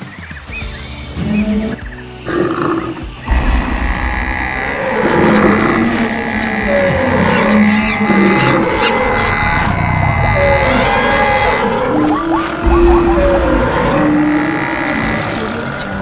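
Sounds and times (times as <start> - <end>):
running hooves rumble: 0.0 - 16.0
animal calls and roaring: 1.2 - 16.0.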